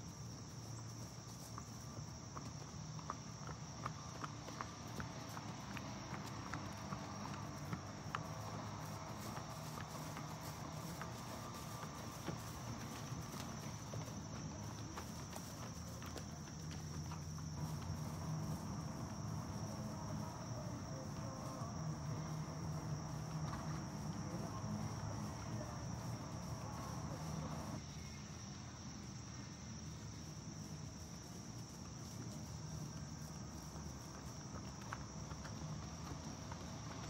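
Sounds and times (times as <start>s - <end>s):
crickets trilling: 0.0s - 37.0s
low background noise: 0.0s - 37.0s.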